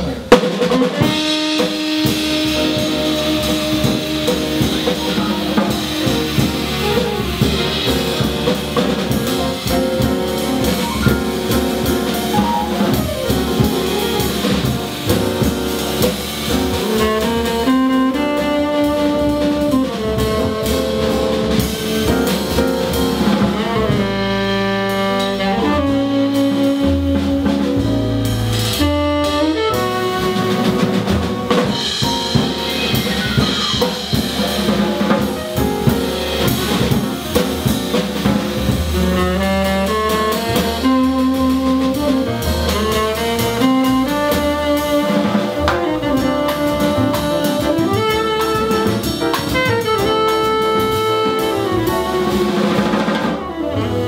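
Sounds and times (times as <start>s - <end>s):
drum kit cymbals: 0.0s - 54.0s
piano: 0.0s - 54.0s
upright bass: 0.0s - 54.0s
tenor saxophone melody: 0.8s - 37.7s, 38.6s - 54.0s.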